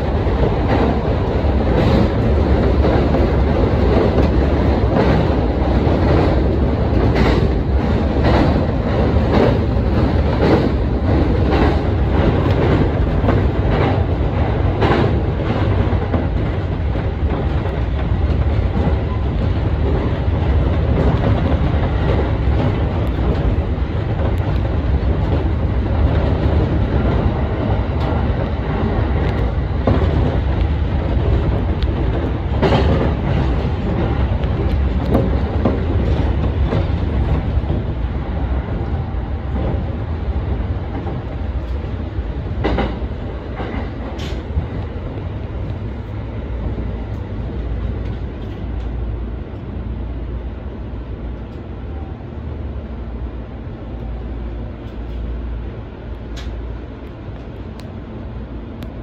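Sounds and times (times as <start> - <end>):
wheel clatter over rail joints: 0.0 - 49.0
train rumbling: 0.0 - 59.0.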